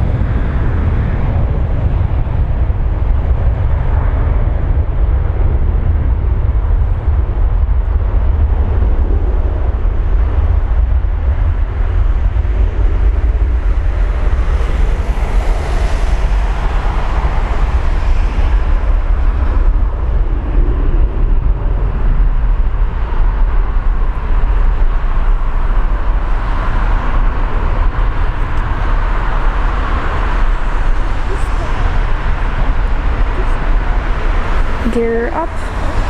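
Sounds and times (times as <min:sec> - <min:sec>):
jet engines at takeoff thrust: 0:00.0 - 0:36.0
wind on microphone: 0:00.0 - 0:36.0.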